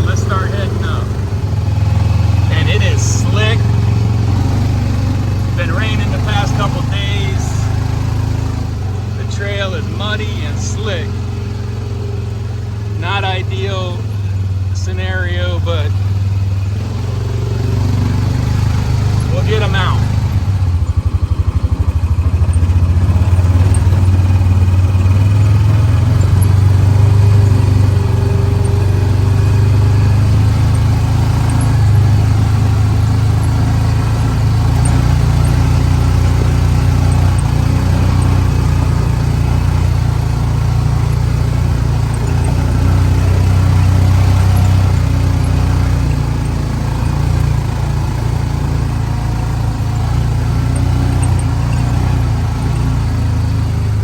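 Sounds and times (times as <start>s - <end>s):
vehicle engine running under load: 0.0s - 54.0s.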